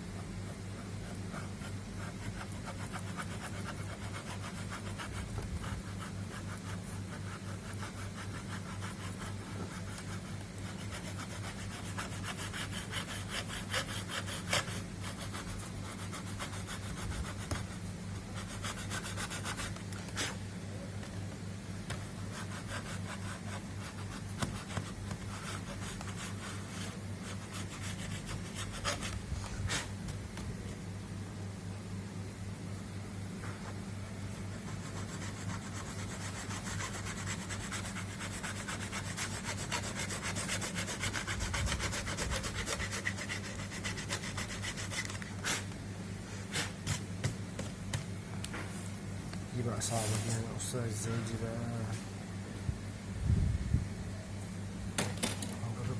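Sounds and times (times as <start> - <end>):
low electrical hum: 0.0 - 55.9.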